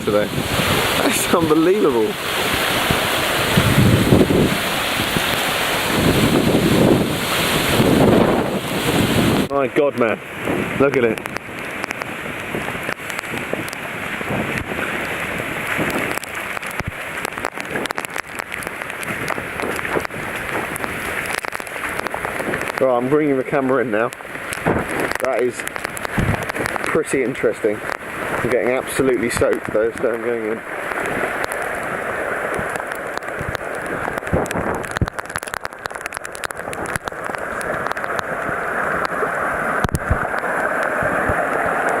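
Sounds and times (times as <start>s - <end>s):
floodwater rushing: 0.0s - 42.0s
rain falling: 0.0s - 42.0s
raindrops tapping microphone: 0.0s - 42.0s.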